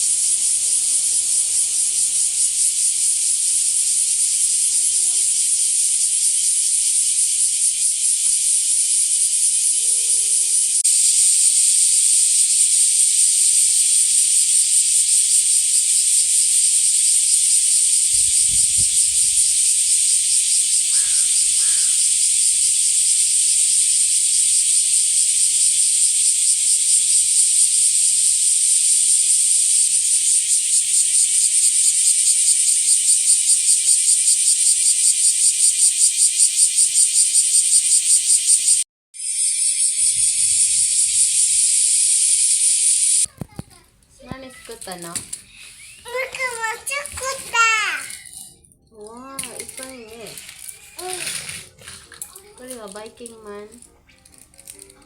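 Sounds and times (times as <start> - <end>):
cicadas shrilling: 0.0 - 43.4, 44.2 - 48.5, 49.3 - 51.5, 52.3 - 54.8.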